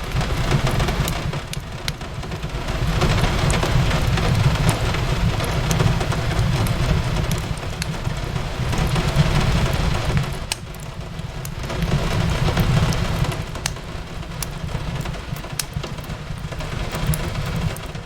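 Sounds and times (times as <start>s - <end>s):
rain hissing: 0.0s - 18.0s
wood fire crackling and popping: 0.0s - 18.0s.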